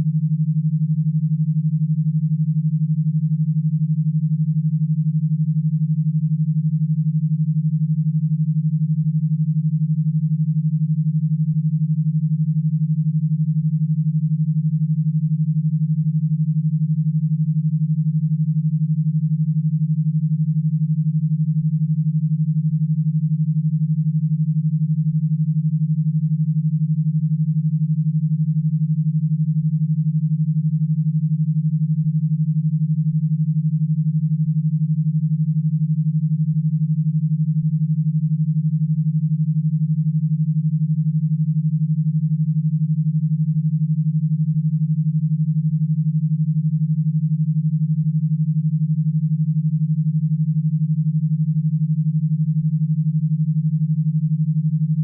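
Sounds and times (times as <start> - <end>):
pulsing low synthesized tone: 0.0 - 55.0.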